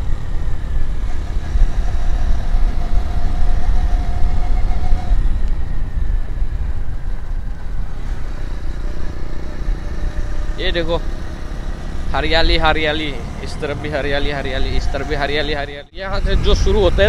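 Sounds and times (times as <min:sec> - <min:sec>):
motorcycle running: 0:00.0 - 0:17.0
wind buffeting microphone: 0:00.0 - 0:17.0.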